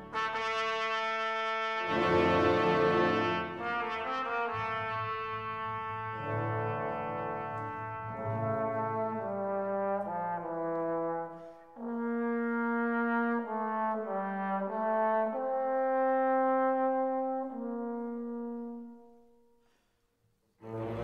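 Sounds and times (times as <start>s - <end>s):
slow horn melody: 0.0s - 19.7s, 20.6s - 21.0s.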